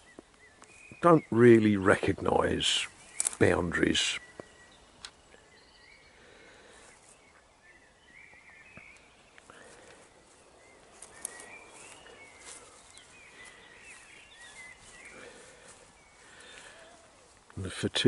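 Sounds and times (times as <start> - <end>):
bird singing warbling phrases: 0.0 - 18.0.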